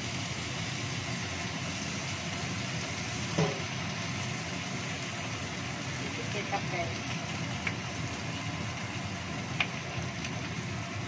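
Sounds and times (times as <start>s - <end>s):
gas burner noise: 0.0s - 11.0s
vegetables sizzling in a wok: 0.0s - 11.0s.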